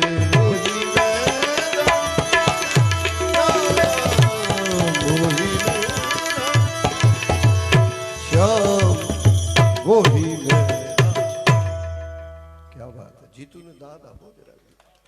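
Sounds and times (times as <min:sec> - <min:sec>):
tabla playing: 0:00.0 - 0:13.6
wavering melody: 0:00.0 - 0:14.6.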